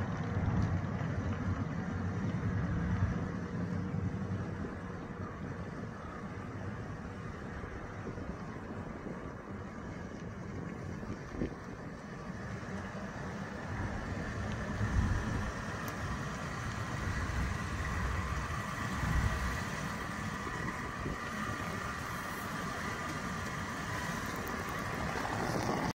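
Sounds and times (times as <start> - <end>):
truck engine running at low revs: 0.0 - 26.0.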